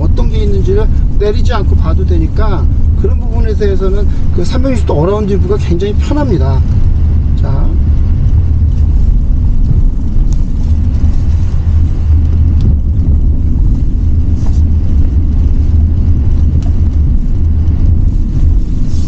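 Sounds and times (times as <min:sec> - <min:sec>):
car cabin rumble: 0:00.0 - 0:19.0.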